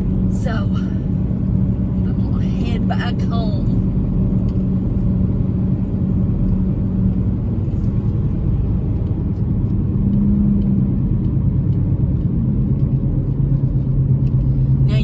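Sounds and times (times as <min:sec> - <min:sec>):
car cabin road and engine rumble: 0:00.0 - 0:15.0
low hum: 0:00.0 - 0:15.0.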